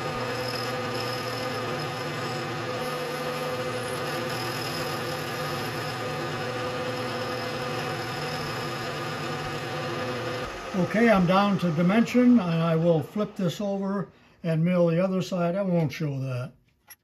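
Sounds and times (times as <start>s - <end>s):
milling machine humming: 0.0s - 14.1s.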